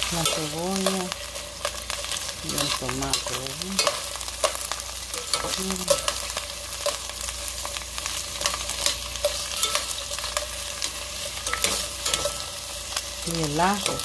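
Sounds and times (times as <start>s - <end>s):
metal tongs scraping pot: 0.0s - 14.0s
vegetables sizzling in oil: 0.0s - 14.0s.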